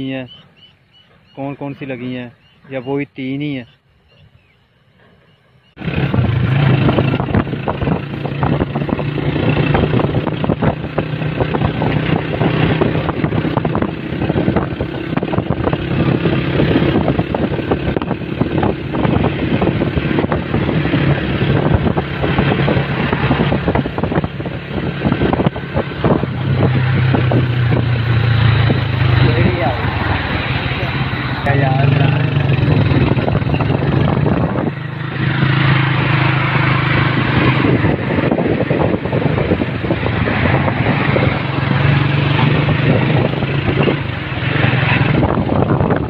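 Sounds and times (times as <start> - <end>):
wind buffeting microphone: 0.0 - 46.0
motorcycle engine running: 5.8 - 46.0.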